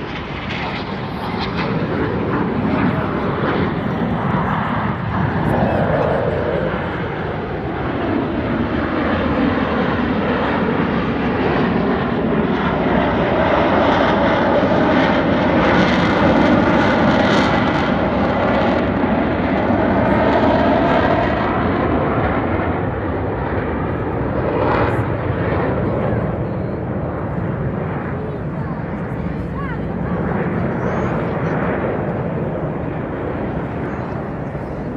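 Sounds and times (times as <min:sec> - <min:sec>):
jets flying past: 0:00.0 - 0:34.9.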